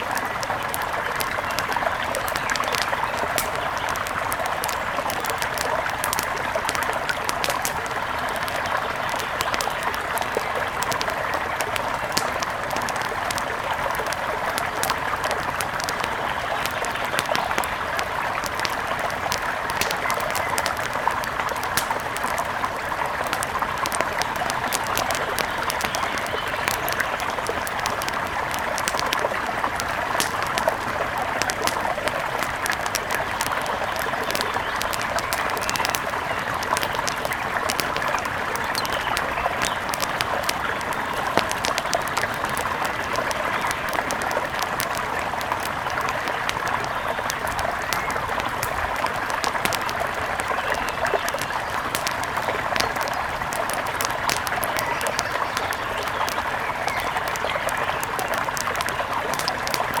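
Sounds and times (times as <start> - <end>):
flowing water: 0.0 - 60.0
wood fire crackling: 0.0 - 60.0.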